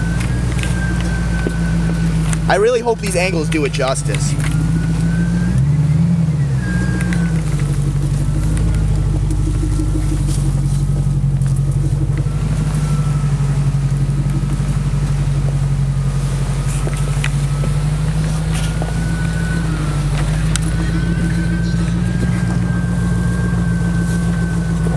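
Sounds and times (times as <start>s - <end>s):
car engine running at low revs: 0.0s - 24.9s
thin steady whine: 0.0s - 24.9s.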